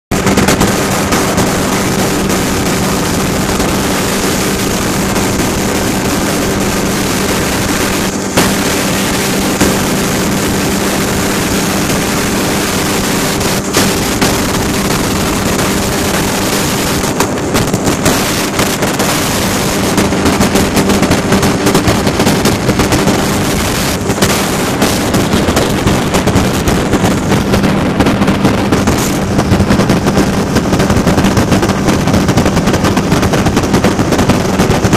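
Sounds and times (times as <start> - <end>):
aircraft engine droning: 0.1 - 34.9
wind rush on microphone: 0.1 - 34.9.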